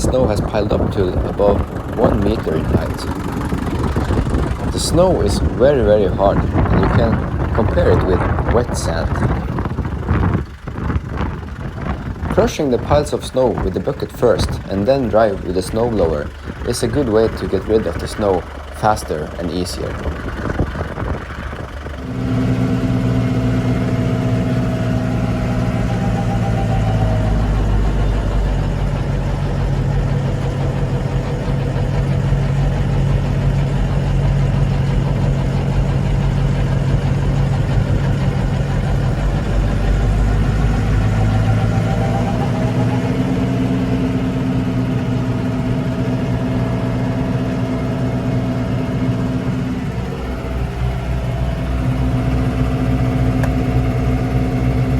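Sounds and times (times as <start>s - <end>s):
tractor diesel engine running hard: 0.0s - 54.9s.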